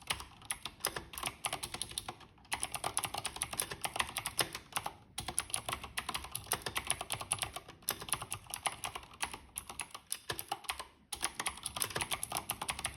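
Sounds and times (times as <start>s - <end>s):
clicky mechanical keyboard typing: 0.0s - 12.9s.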